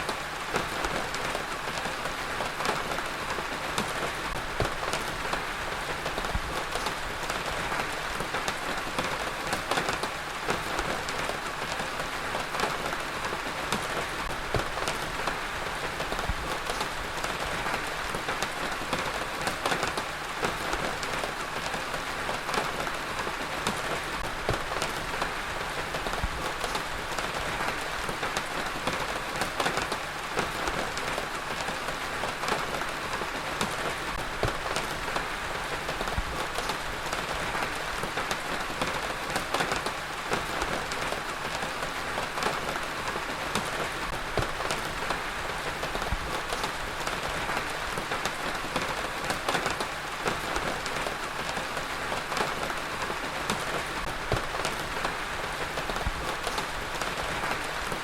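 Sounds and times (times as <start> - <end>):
heavy rain on hard surface: 0.0 - 58.0.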